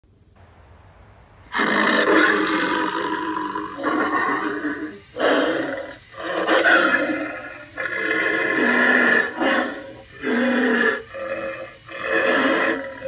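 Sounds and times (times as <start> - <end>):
werewolf roar through speaker: 1.5 - 13.0.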